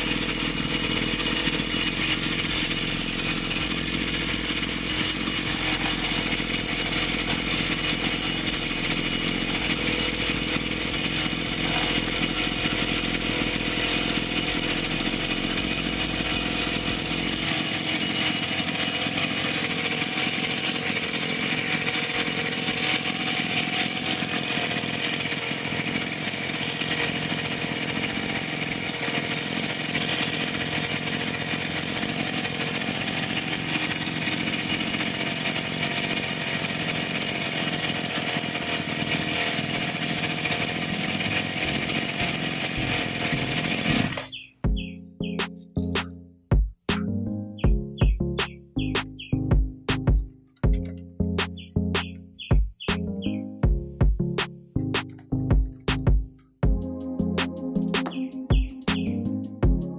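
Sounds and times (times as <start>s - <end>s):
two-stroke brush cutter engine running: 0.0s - 46.1s, 46.7s - 59.9s.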